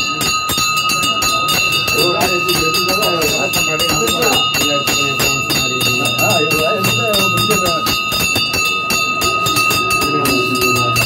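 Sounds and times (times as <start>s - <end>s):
bell rung rapidly: 0.0s - 11.0s
crowd voices: 0.0s - 11.0s.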